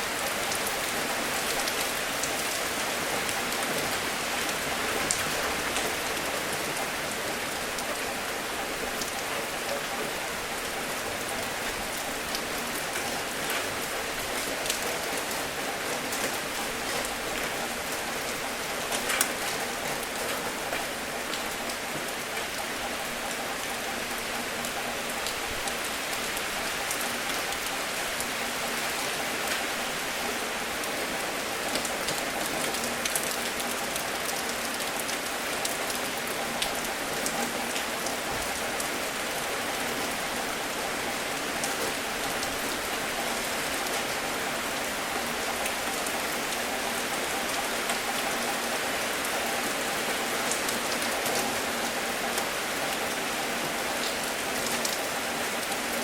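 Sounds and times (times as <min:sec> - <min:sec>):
rain falling on hard surface: 0:00.0 - 0:56.0.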